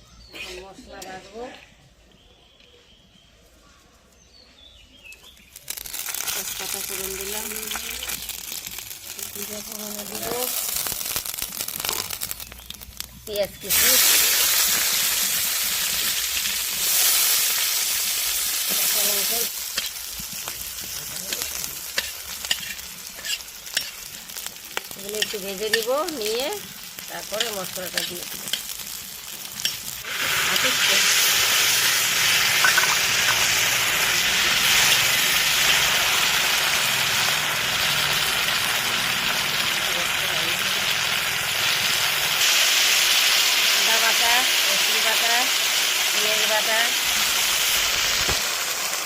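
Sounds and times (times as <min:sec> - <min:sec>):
onion sizzling in hot oil: 0:05.3 - 0:49.0.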